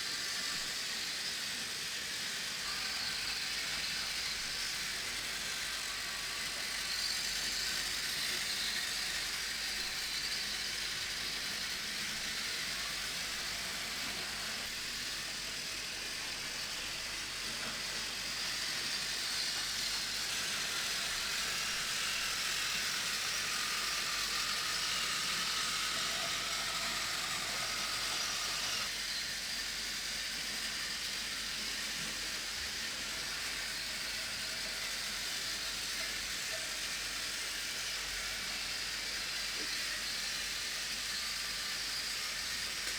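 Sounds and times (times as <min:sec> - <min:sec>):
toy train motor whirring: 0:00.0 - 0:42.9.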